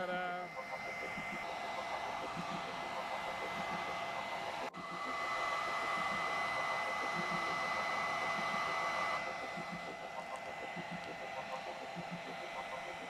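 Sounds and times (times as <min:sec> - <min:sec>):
hair dryer blowing with whine: 0:00.0 - 0:13.0.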